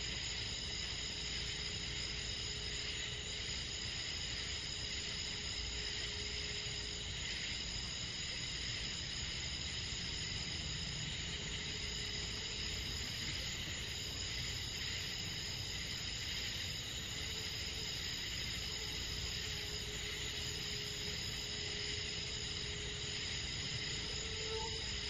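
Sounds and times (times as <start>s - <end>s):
constant low rumble: 0.0s - 25.0s
crickets and insects trilling: 0.0s - 25.0s.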